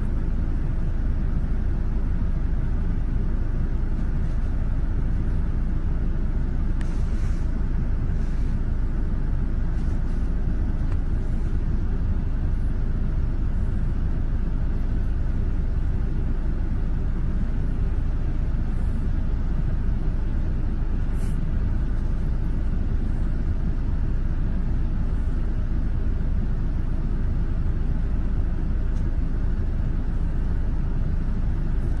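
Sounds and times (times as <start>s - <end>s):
car engine rumble: 0.0s - 32.0s
road noise: 0.0s - 32.0s.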